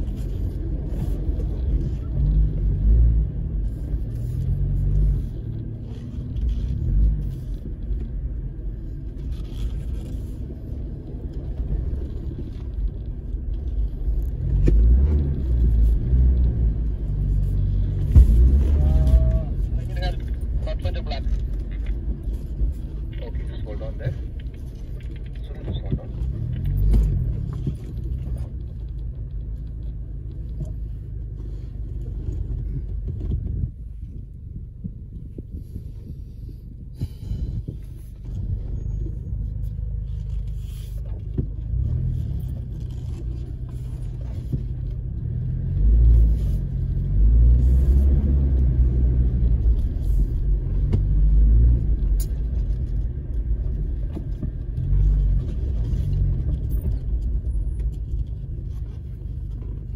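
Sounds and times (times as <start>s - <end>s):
engine rumbling inside cabin: 0.0s - 59.9s.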